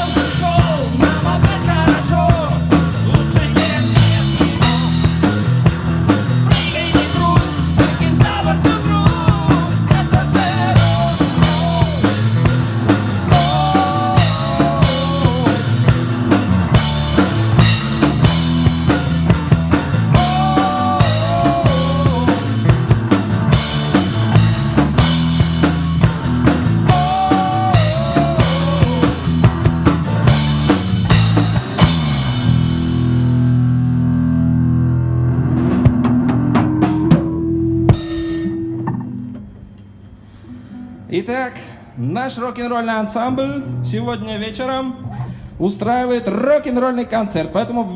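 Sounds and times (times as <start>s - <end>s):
rock band playing: 0.0s - 39.7s
guitar bent notes: 0.0s - 41.1s.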